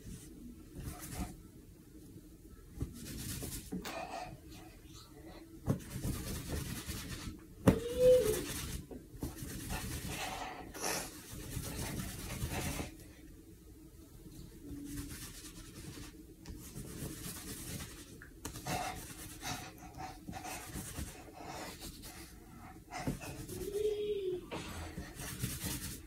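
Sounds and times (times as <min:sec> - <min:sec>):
towel rubbing wet hair: 0:00.0 - 0:01.4, 0:02.8 - 0:04.4, 0:05.7 - 0:13.1, 0:14.6 - 0:26.0.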